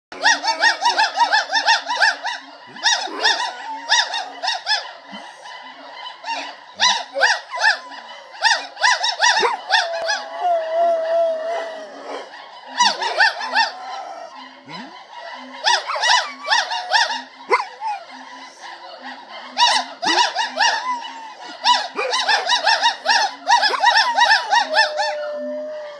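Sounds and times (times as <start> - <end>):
dog howling: 0.2 - 4.9, 6.8 - 18.7, 19.8 - 25.9
gibbons whooping: 0.2 - 5.4, 6.3 - 25.9.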